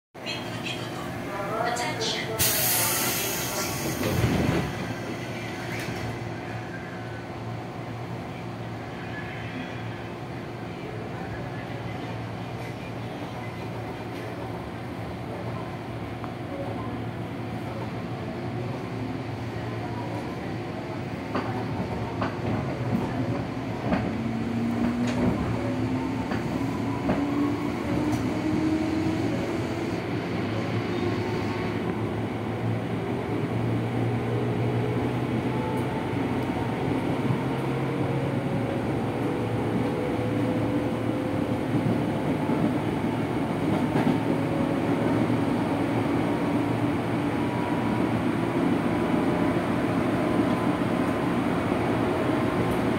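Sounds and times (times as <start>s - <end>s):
wheels rumbling on rail: 0.2s - 52.9s.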